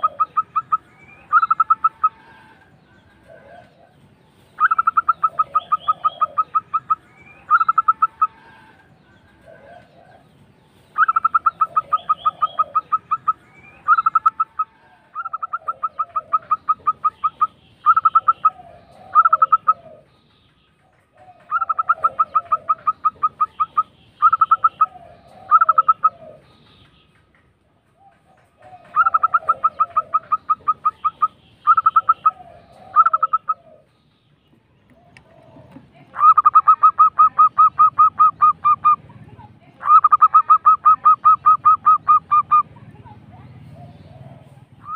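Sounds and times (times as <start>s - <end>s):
dove trilling coo: 0.0s - 10.4s, 11.0s - 20.1s, 20.8s - 26.5s, 28.0s - 33.9s, 35.0s - 44.9s.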